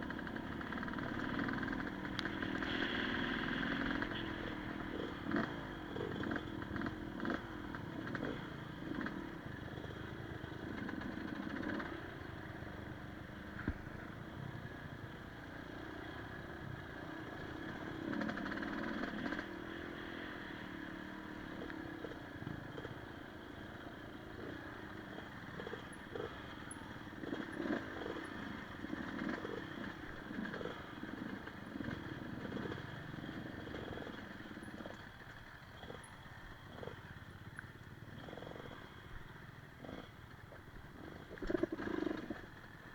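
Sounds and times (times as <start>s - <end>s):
motorcycle engine running: 0.0s - 42.9s
motorcycle rattling over rough ground: 0.0s - 42.9s.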